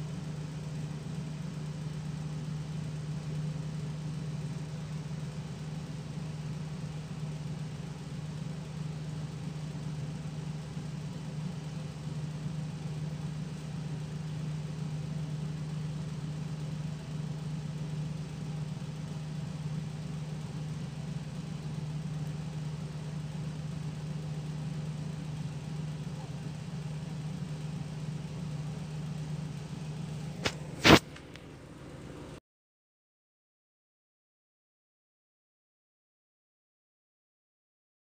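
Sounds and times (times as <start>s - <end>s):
steady low hum: 0.0s - 32.4s.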